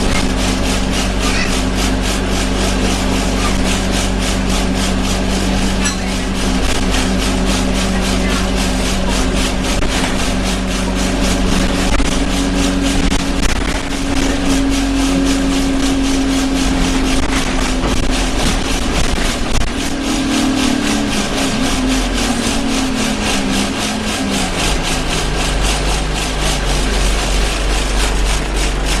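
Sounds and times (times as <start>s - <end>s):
bus engine running: 0.0s - 29.0s
rattling interior vibration: 0.0s - 29.0s.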